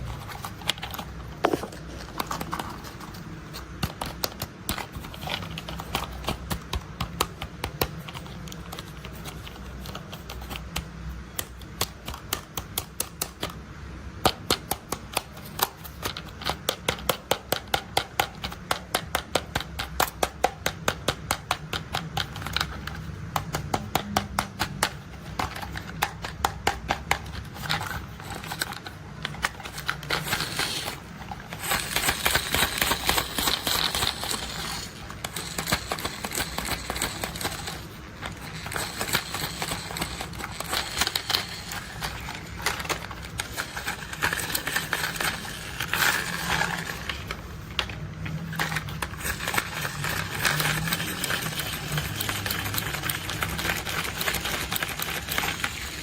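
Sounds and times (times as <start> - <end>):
plastic toys clicking and tapping: 0.0 - 56.0.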